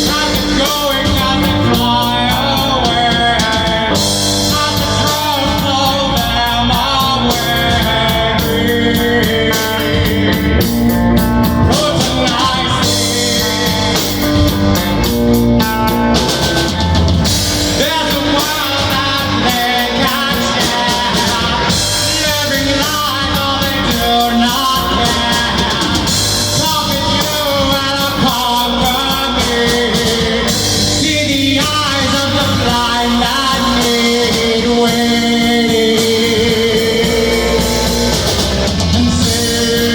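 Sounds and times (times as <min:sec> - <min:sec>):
drum kit: 0:00.0 - 0:39.9
guitar: 0:00.0 - 0:39.9
person singing: 0:00.0 - 0:39.9.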